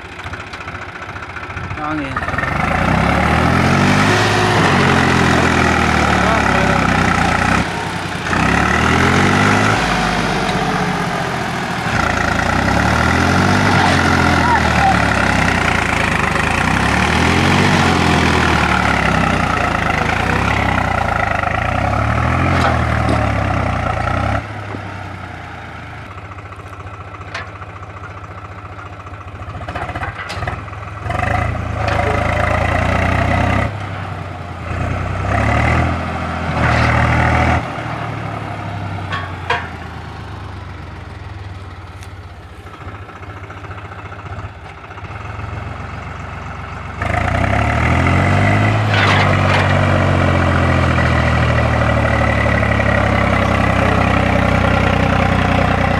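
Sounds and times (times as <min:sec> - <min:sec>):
tractor diesel engine straining: 0:00.0 - 0:55.9.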